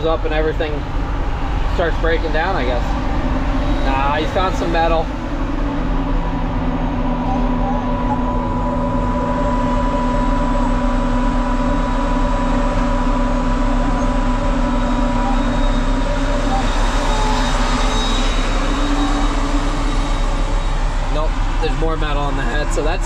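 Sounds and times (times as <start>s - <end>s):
diesel machinery engine drone: 0.0s - 23.0s.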